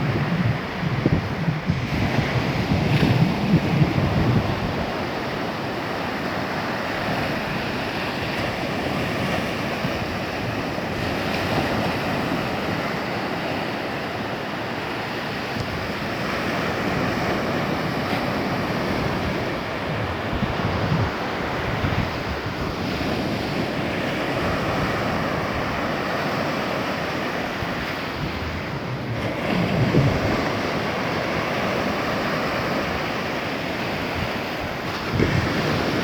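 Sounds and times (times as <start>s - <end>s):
water rushing around kayak: 0.0s - 36.0s
wind buffeting microphone: 0.0s - 36.0s.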